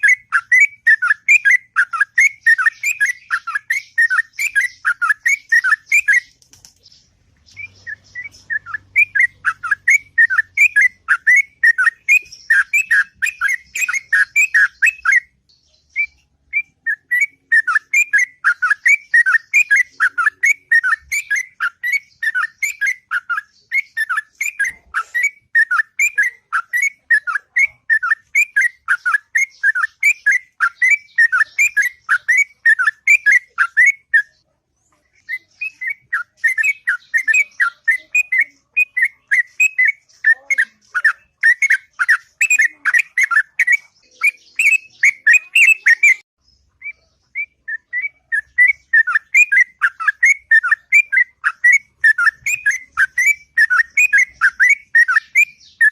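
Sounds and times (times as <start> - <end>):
bird whistled notes: 0.0 - 6.3, 7.5 - 34.4, 35.2 - 46.2, 46.8 - 55.9.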